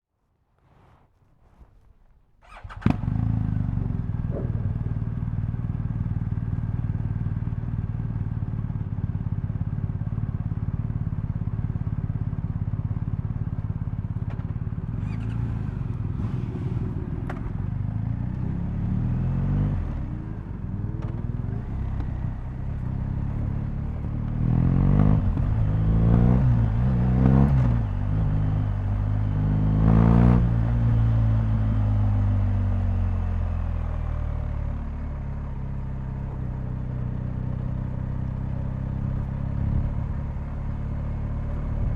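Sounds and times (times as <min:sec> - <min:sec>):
motorcycle engine starting and revving: 0:02.4 - 0:41.9.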